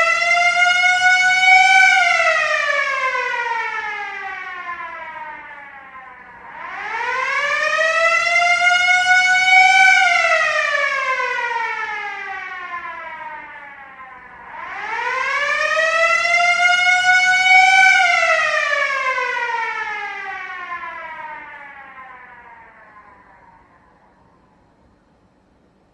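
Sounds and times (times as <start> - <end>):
siren wailing slowly: 0.0 - 25.7.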